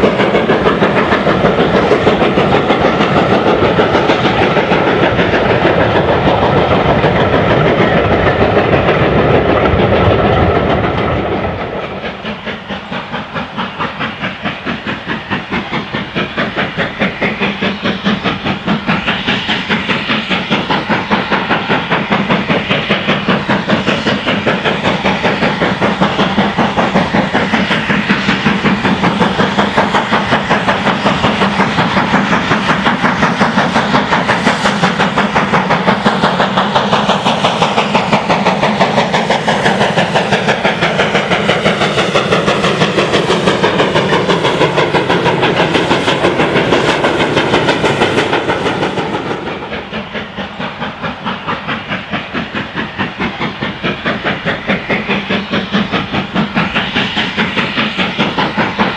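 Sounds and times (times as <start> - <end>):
steam locomotive exhaust beating: 0.0 - 58.9.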